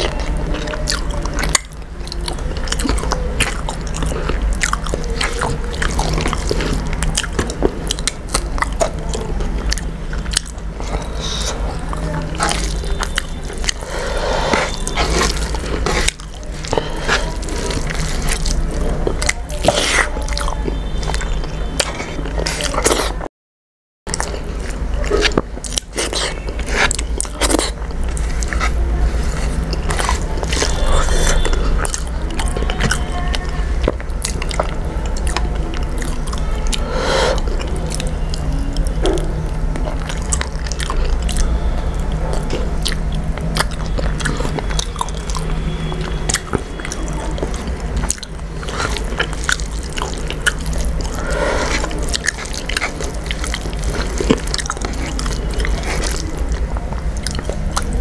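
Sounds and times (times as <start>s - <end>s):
wet mouth clicks: 0.0s - 23.2s, 33.8s - 58.0s
chewing and lip-smacking: 0.0s - 23.3s, 24.1s - 58.0s
steady low hum: 0.0s - 23.3s, 24.1s - 58.0s.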